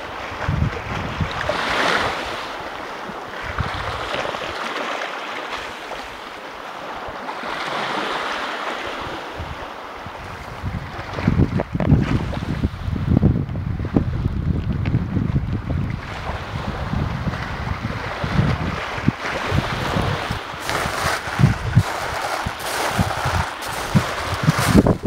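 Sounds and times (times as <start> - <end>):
wind buffeting microphone: 0.0 - 4.6, 8.9 - 25.0
waves lapping on gravel shore: 0.0 - 12.8, 15.9 - 25.0.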